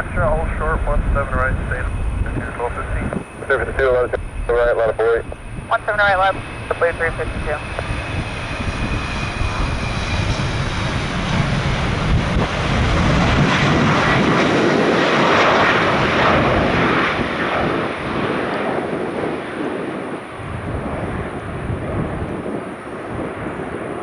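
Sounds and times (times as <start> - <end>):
jet airliner passing: 0.0 - 24.0
wind buffeting microphone: 0.0 - 24.0.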